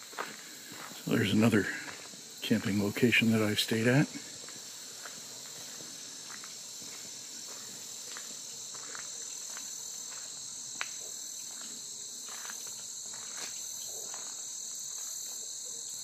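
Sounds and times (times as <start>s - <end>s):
footsteps: 0.0s - 15.5s
insects trilling: 0.0s - 16.0s.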